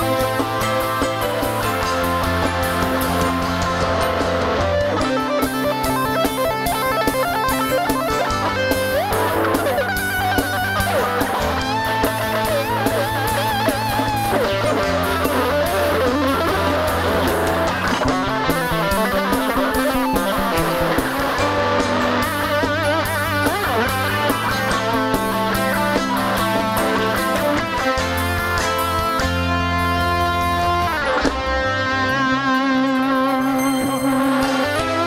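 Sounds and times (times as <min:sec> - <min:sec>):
drums: 0:00.0 - 0:35.0
electric bass: 0:00.0 - 0:35.0
electric guitar lead: 0:00.0 - 0:35.0
keyboards: 0:00.0 - 0:35.0.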